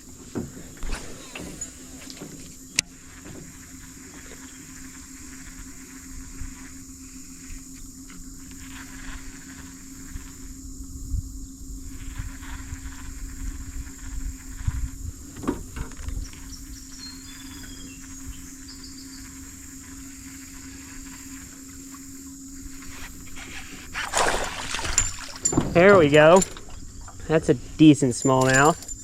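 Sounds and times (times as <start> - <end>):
constant low hum: 0.0 - 29.0
insects buzzing: 0.0 - 29.0.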